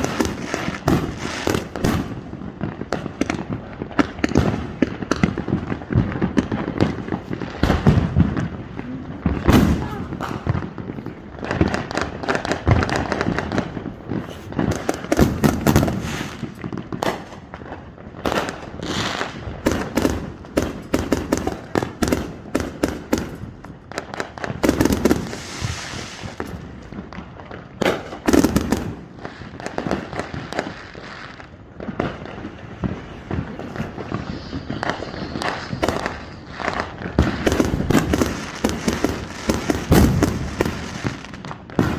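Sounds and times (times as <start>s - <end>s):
fireworks bangs and crackling pops: 0.0s - 41.9s.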